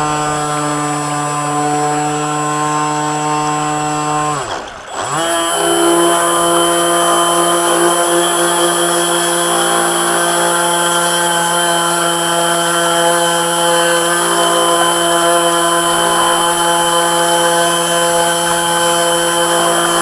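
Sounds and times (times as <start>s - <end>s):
electric motor whining: 0.0s - 20.0s
water rushing along hull: 0.0s - 20.0s.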